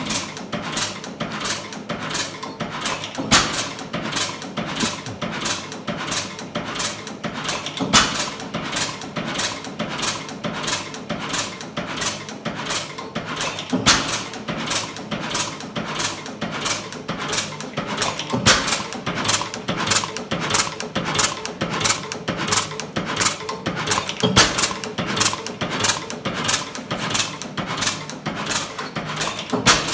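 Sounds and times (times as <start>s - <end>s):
engine knock: 0.0s - 29.9s
stationary engine clattering: 0.0s - 29.9s.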